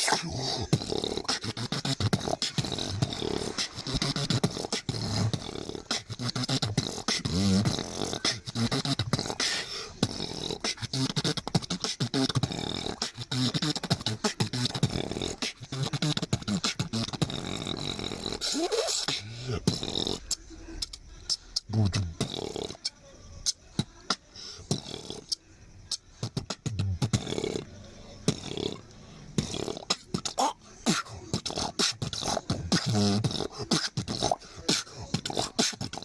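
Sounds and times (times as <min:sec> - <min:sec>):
person beatboxing: 0:00.0 - 0:36.0.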